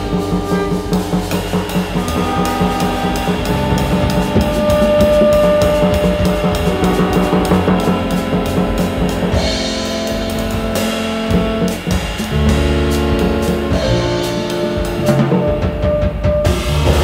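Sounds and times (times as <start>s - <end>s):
live jazz band playing: 0.0s - 17.0s.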